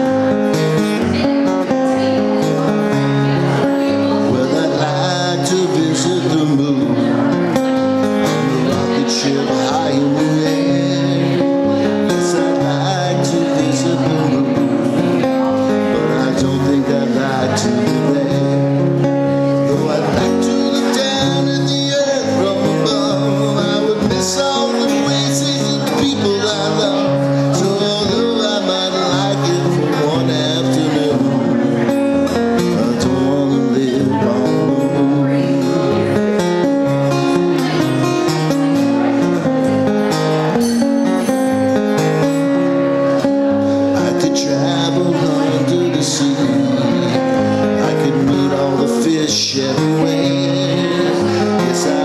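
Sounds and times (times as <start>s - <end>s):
solo guitar playing: 0.0s - 52.0s.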